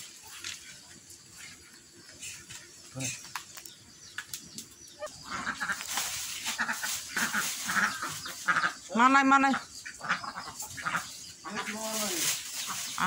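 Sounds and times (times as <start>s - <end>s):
animals calling: 0.0s - 13.0s.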